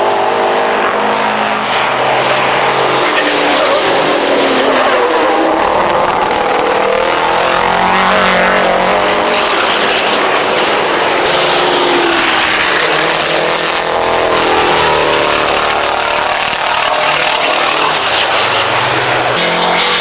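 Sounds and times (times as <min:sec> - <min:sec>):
diesel truck engines racing: 0:00.0 - 0:20.0.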